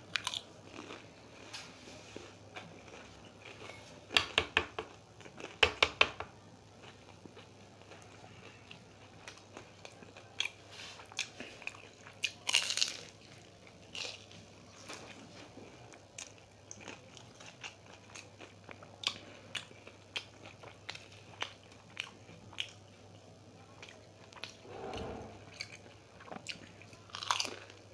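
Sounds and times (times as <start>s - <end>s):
crunching and chewing pastry: 0.0s - 5.7s, 6.6s - 24.7s, 25.4s - 27.9s.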